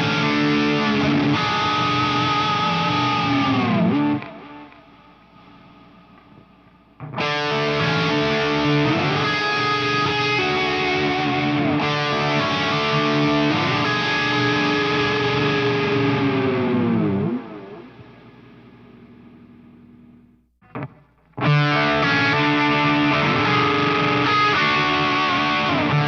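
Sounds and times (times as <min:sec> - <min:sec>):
distorted electric guitar chord: 0:00.0 - 0:05.2, 0:07.0 - 0:18.5, 0:20.6 - 0:26.0.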